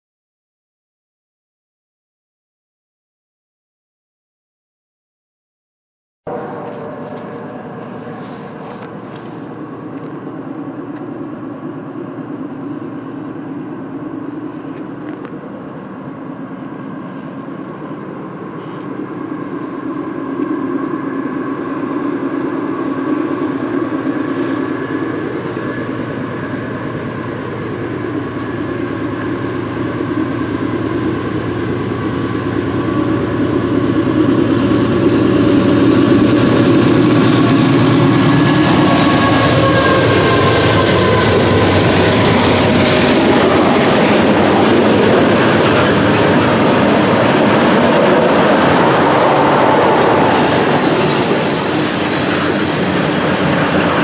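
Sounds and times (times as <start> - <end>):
locomotive engine drone: 6.3 - 54.0.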